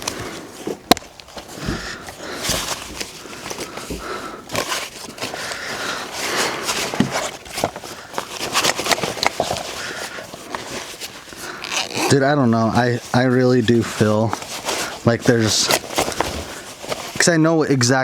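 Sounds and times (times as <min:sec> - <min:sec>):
gear rustling: 0:00.0 - 0:17.4.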